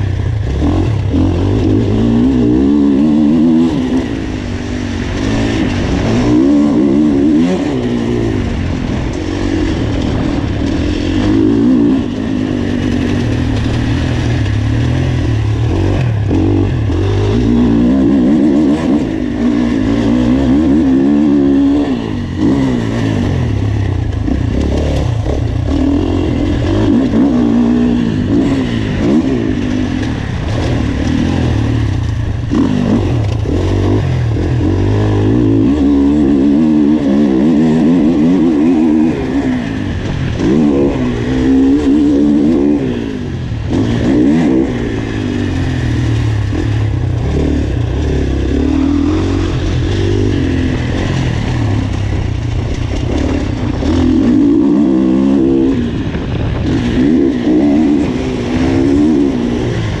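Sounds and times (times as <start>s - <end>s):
motocross bike engine revving: 0.0s - 60.0s.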